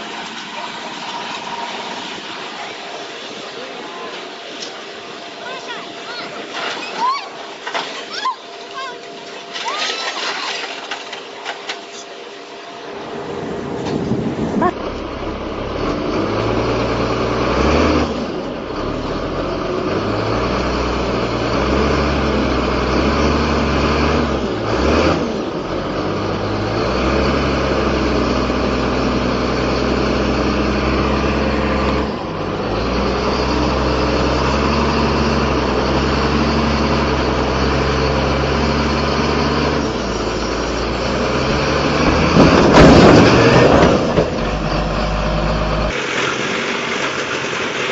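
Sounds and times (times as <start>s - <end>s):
heavy diesel engine running: 0.0s - 7.7s, 10.2s - 47.9s.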